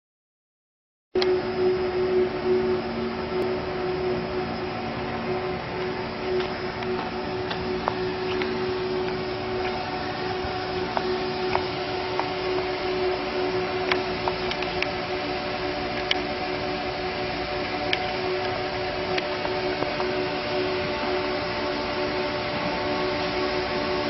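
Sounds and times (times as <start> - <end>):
small machine humming: 1.2 - 24.0.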